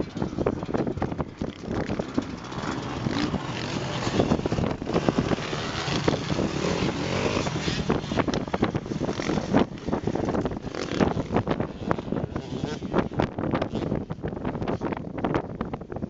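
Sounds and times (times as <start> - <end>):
dirt bike engines running: 0.0 - 16.0.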